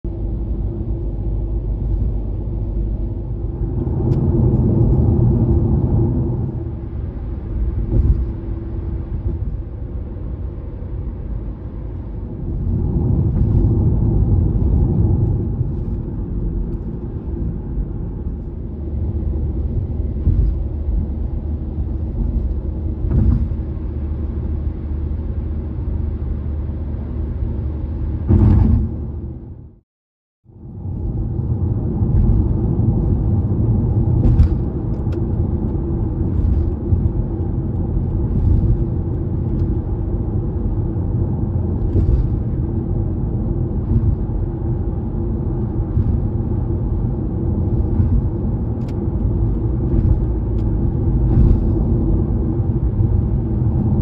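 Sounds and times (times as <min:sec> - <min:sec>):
low tyre rumble: 0:00.0 - 0:29.8, 0:30.4 - 0:54.0.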